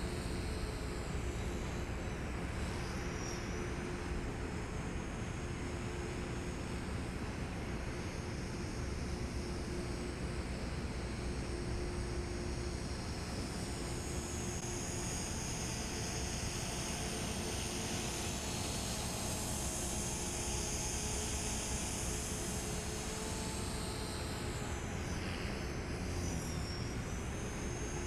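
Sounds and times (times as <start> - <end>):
rc helicopter whine: 0.0 - 28.0.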